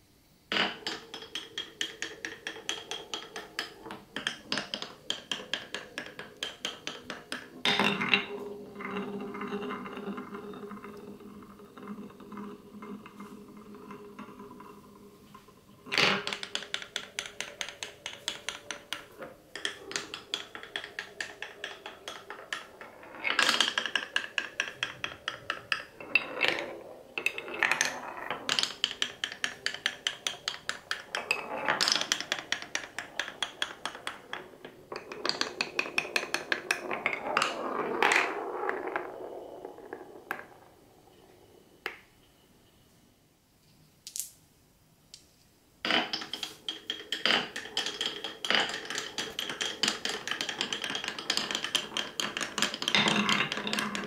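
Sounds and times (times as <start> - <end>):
marble clattering on wooden track: 0.5 - 42.1, 45.8 - 54.0.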